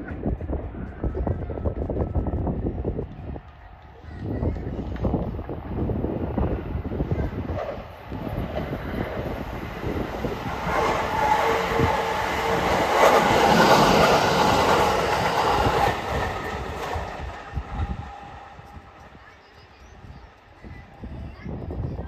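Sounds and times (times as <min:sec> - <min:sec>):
electric train rushing past: 0:01.7 - 0:20.8.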